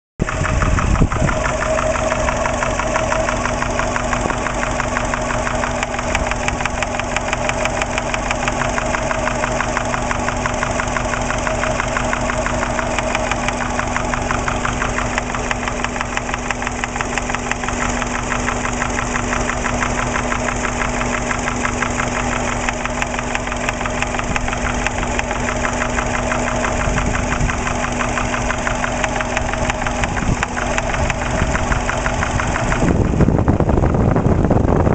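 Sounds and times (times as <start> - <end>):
car engine idling with knocking: 0.2 - 34.9.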